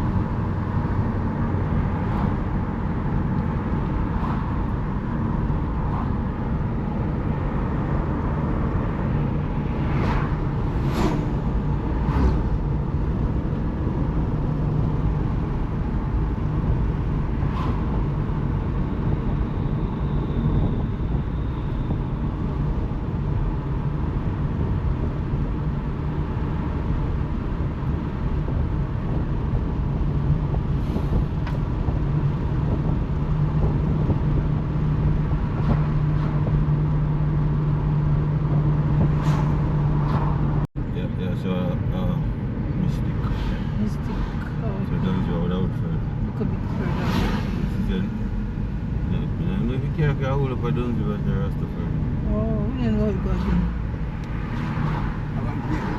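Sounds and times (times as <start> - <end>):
car engine drone: 0.0 - 55.9
road noise: 0.0 - 55.9.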